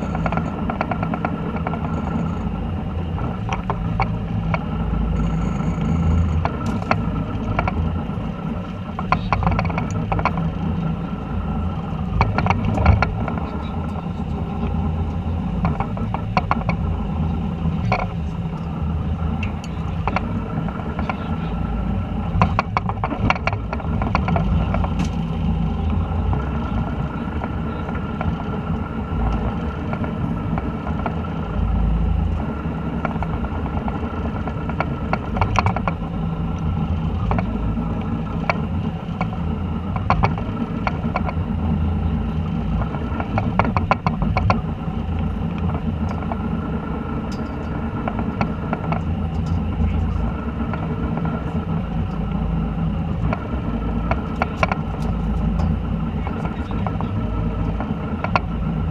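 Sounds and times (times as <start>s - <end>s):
boat engine idling: 0.0s - 58.9s
sharp clicks and rattles: 0.0s - 58.9s.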